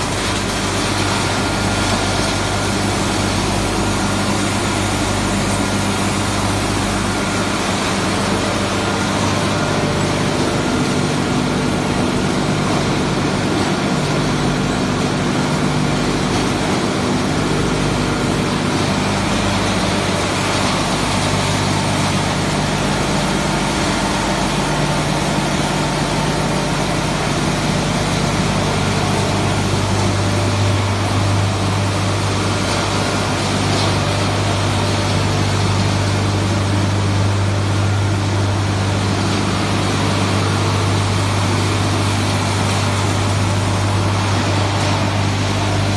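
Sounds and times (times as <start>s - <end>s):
industrial machine noise: 0.0s - 45.9s.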